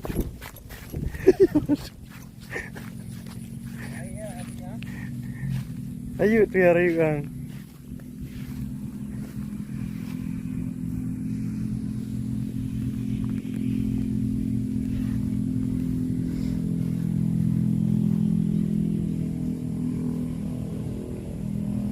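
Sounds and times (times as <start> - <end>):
engine running: 0.0 - 21.9.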